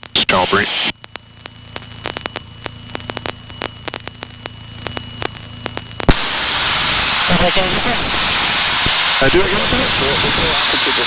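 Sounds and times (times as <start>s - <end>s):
crackling static clicks: 0.0s - 11.0s
electrical hum: 0.0s - 11.0s.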